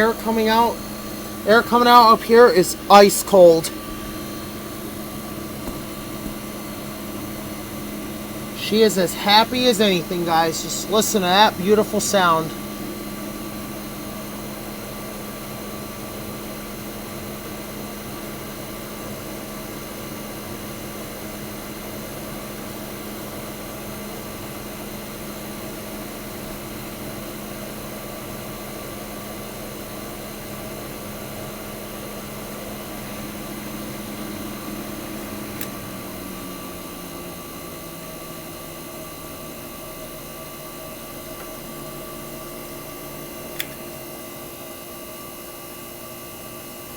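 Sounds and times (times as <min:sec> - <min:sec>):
window air conditioner humming: 0:00.0 - 0:46.9.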